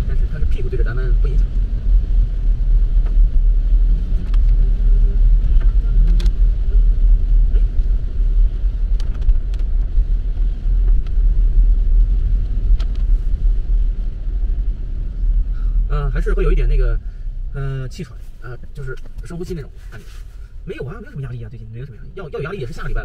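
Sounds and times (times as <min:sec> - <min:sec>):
heavy rain: 0:00.0 - 0:21.4
car road and engine rumble: 0:00.0 - 0:23.0.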